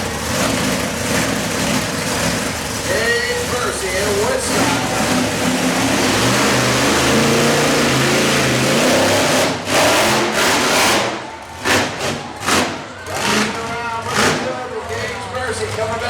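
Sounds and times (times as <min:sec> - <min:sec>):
engine throttle blips: 0:00.0 - 0:16.0
monster truck engine revving: 0:00.0 - 0:16.0.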